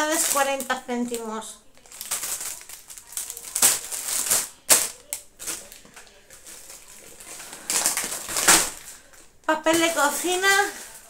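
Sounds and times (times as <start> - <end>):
plastic bags rustling and crinkling: 0.0 - 11.0.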